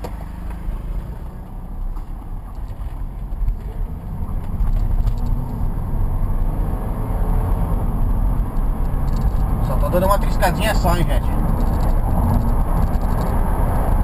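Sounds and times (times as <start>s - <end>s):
car engine accelerating from cabin: 0.0s - 14.0s.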